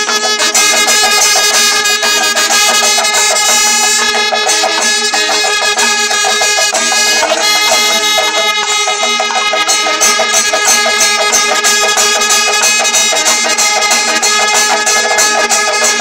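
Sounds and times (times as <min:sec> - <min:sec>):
hand cymbals clashing: 0:00.0 - 0:16.0
horns blowing long notes: 0:00.0 - 0:16.0.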